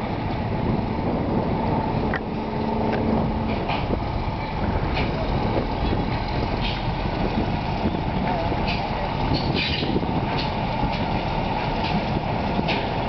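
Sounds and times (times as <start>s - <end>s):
engine hum: 0.0s - 13.0s
train rumbling over bridge: 0.0s - 13.0s.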